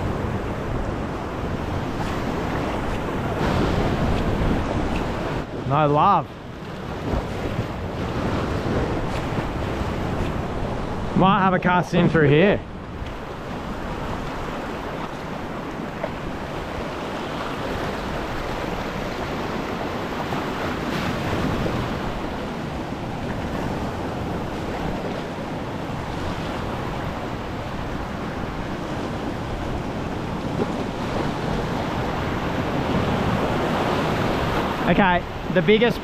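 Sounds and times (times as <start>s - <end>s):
wind on microphone: 0.0s - 35.6s
ocean surf against rocks: 0.0s - 36.0s.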